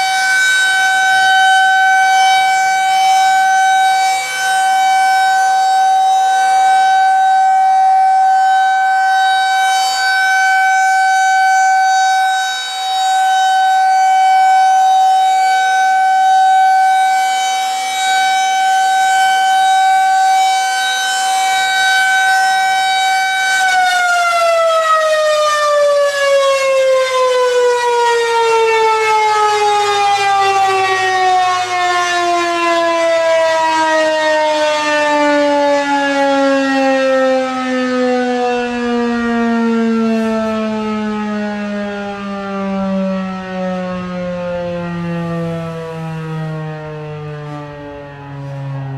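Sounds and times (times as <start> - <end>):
siren winding down: 0.0 - 48.9
warning siren steady tone: 0.0 - 48.9.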